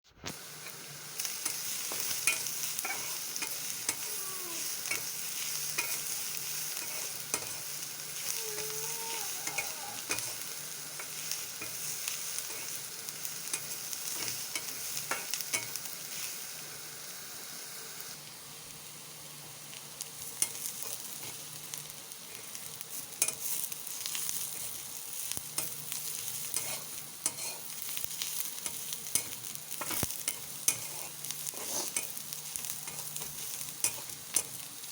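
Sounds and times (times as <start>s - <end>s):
food sizzling in a pan: 0.1s - 34.9s
spatula clicking and scraping: 0.6s - 12.8s, 13.4s - 15.9s, 20.3s - 21.4s, 22.3s - 34.7s.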